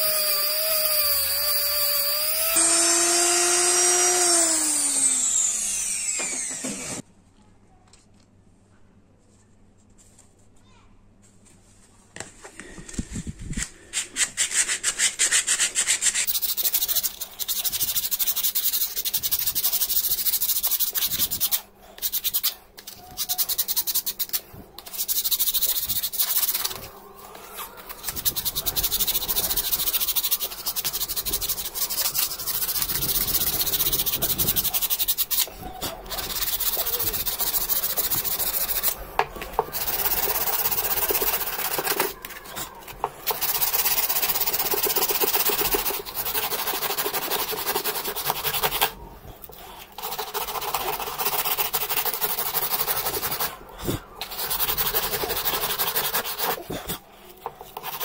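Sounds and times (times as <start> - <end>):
sanding disc scratching wood: 0.0 - 7.0, 14.2 - 26.9, 27.8 - 53.6, 54.2 - 58.0.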